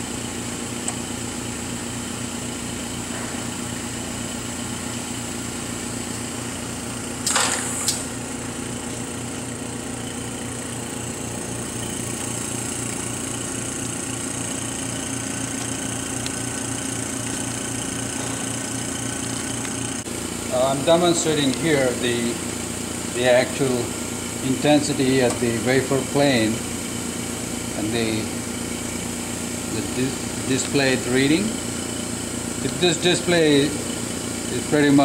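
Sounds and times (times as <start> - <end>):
lab equipment hum: 0.0 - 35.0.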